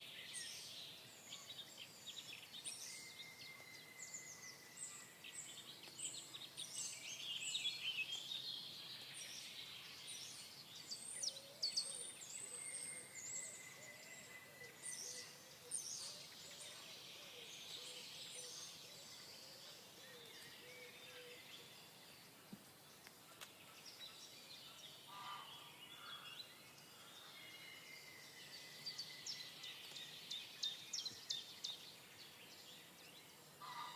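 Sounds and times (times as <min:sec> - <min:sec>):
birds chirping: 0:00.0 - 0:33.9
faint background noise: 0:00.0 - 0:33.9.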